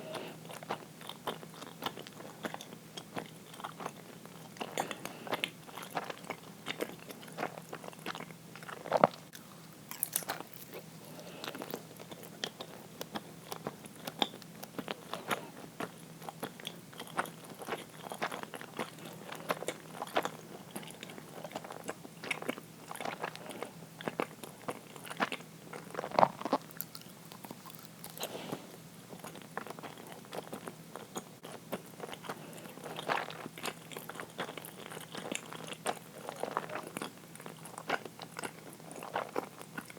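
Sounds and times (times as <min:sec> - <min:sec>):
person chewing sticky food: 0:00.0 - 0:39.9.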